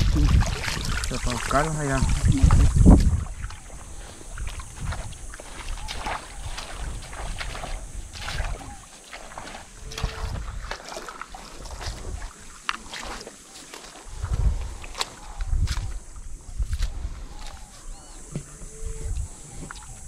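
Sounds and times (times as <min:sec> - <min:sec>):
wind rumble on microphone: 0:00.0 - 0:10.8, 0:11.5 - 0:12.4, 0:14.0 - 0:20.0
water splashing in a stream: 0:00.0 - 0:17.8.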